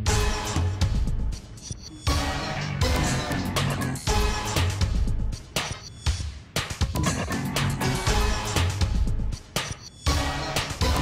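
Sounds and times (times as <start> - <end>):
music with beat and deep bass: 0.0 - 11.0.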